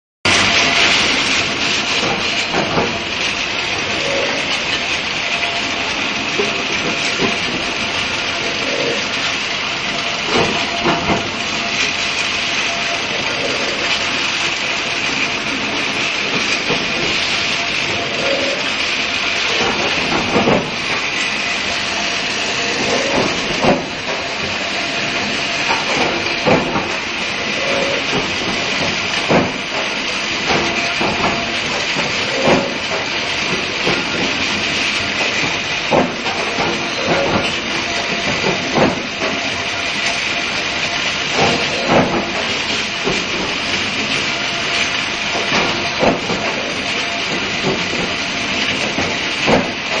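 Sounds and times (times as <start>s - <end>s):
steady loud hiss: 0.3s - 50.0s.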